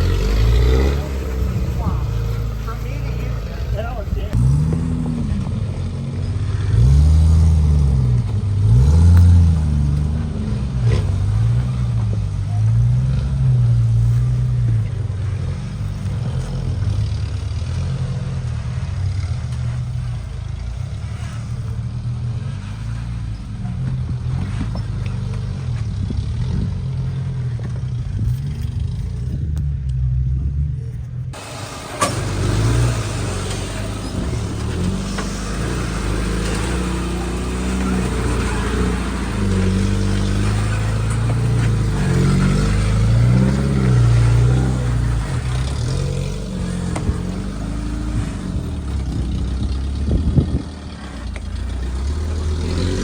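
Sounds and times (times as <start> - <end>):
vehicle engine revving: 0.0 - 53.0.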